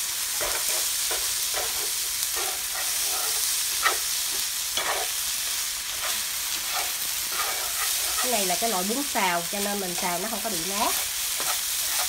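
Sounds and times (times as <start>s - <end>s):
noodles sizzling in a pan: 0.0s - 12.0s
chopsticks stirring: 1.5s - 5.1s, 5.9s - 12.0s.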